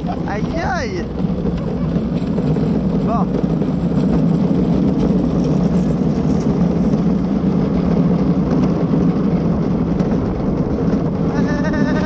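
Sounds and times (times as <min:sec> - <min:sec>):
luge cart wheels rumbling: 0:00.0 - 0:12.0.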